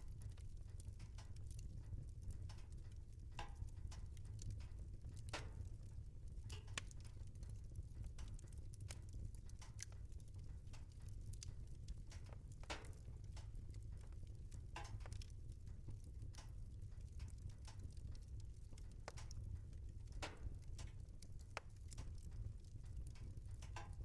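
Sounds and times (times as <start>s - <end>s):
fire crackling and popping: 0.0s - 24.0s
low fire rumble: 0.0s - 24.0s.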